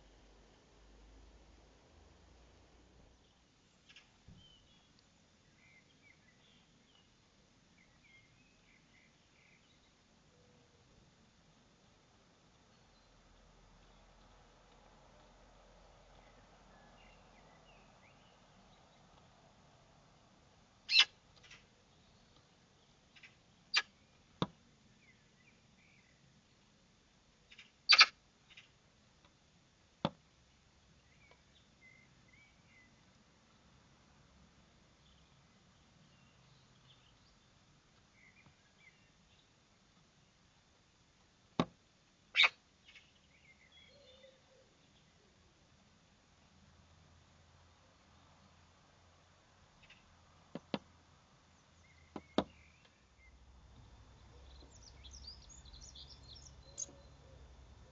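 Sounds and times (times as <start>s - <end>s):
background hiss: 0.0s - 57.9s
small birds chirping: 3.0s - 29.4s, 30.3s - 40.9s, 42.1s - 57.9s.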